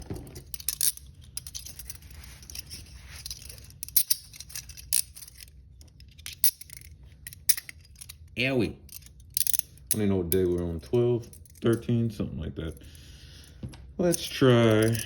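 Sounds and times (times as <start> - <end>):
handcuffs clicking and rattling: 0.0 - 12.0, 14.0 - 15.0.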